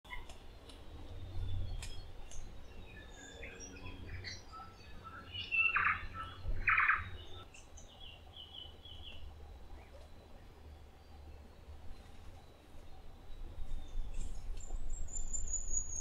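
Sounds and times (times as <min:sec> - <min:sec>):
birds chirping and whistling: 0:00.1 - 0:16.0.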